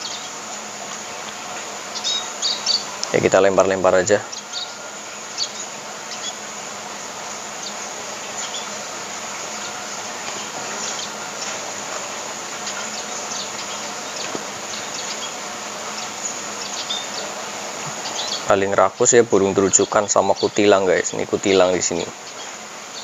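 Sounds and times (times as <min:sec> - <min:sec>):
insects humming: 0:00.0 - 0:23.0
high bird chirps: 0:01.1 - 0:03.3, 0:04.0 - 0:06.5, 0:07.5 - 0:11.6, 0:12.5 - 0:23.0.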